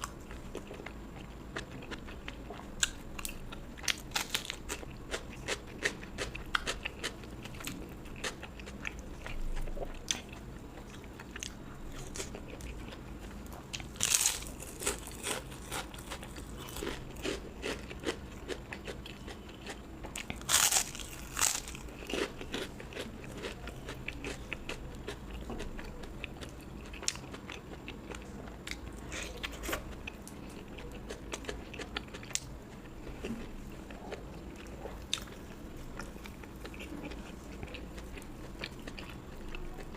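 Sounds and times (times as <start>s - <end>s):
crunching crisp food: 0.0s - 39.9s.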